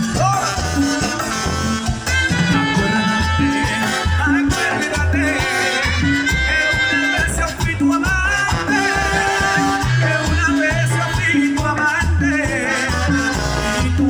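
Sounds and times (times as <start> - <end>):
bouncing bass line: 0.0 - 14.0
latin dance band playing: 0.0 - 14.0
maracas: 0.0 - 14.0.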